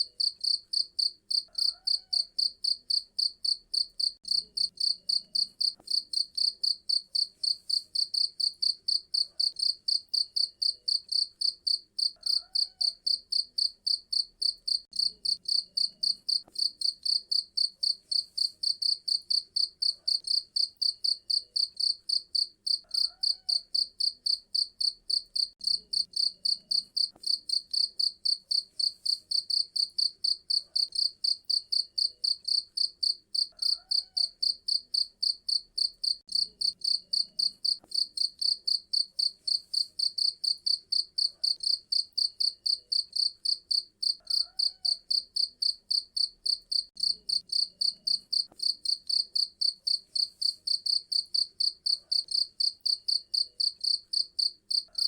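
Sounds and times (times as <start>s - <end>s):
cricket chirping: 0.1s - 55.0s.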